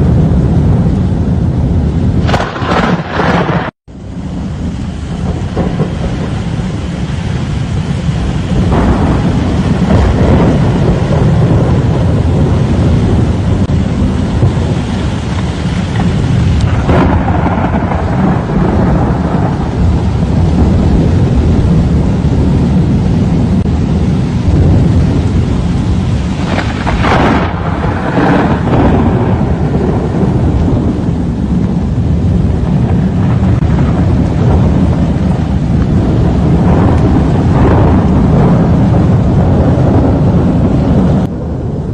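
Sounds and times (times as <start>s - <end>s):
rain: 0.0s - 41.9s
wind: 0.0s - 41.9s.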